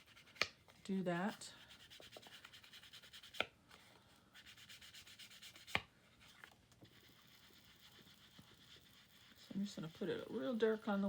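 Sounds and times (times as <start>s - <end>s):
soft scrubbing on paper: 0.0s - 11.0s.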